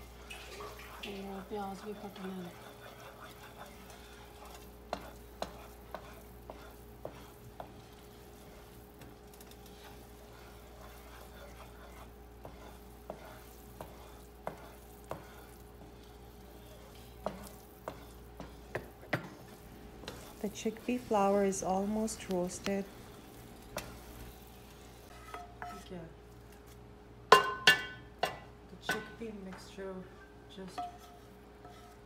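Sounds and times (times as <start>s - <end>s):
flour sizzling in oil: 0.0s - 26.8s
wooden spatula scraping pan: 0.0s - 26.8s, 29.6s - 32.0s.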